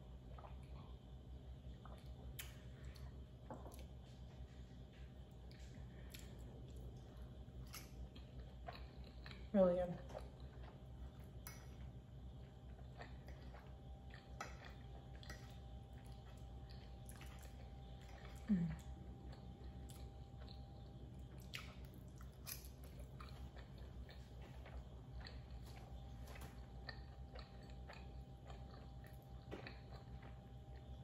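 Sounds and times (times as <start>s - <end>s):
steady low hum: 0.0s - 31.0s
close-up chewing: 0.2s - 31.0s.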